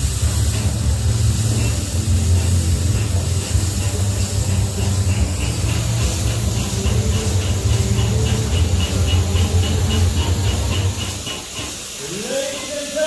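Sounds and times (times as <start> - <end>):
steam locomotive hissing: 0.0 - 13.0.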